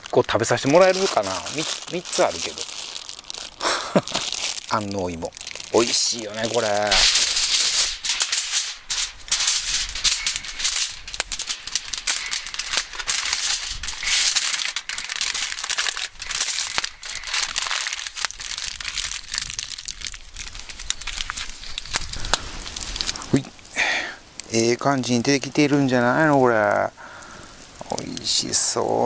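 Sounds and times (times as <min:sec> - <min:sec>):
aluminium foil crinkling: 0:00.0 - 0:29.0.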